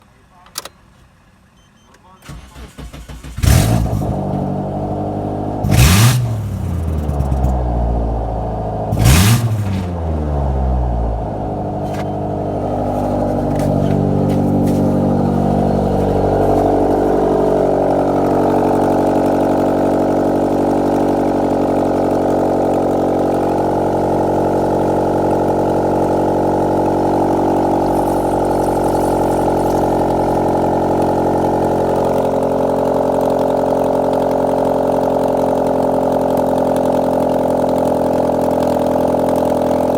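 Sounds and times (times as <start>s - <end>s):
car engine revving and idling: 2.3s - 39.9s.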